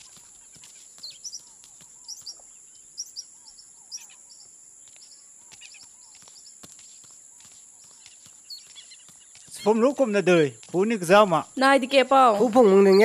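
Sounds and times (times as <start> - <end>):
bird chirping in pairs: 0.0 - 13.0.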